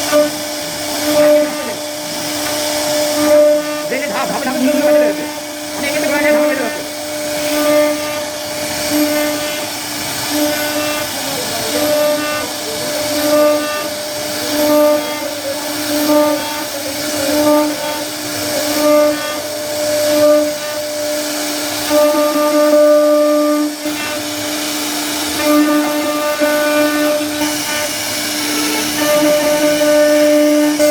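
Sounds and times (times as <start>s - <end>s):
router spindle whining carving wood: 0.0s - 30.9s.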